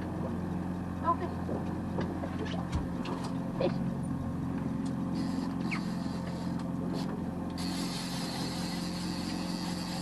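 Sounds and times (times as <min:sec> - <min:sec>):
boat motor idling: 0:00.0 - 0:10.0.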